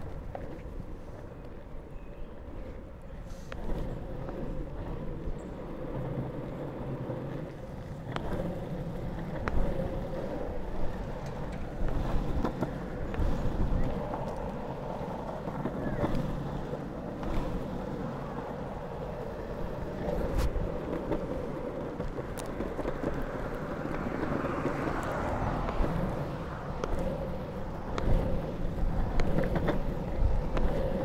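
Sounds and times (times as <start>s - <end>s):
skateboard wheels rolling on asphalt: 0.0s - 31.0s.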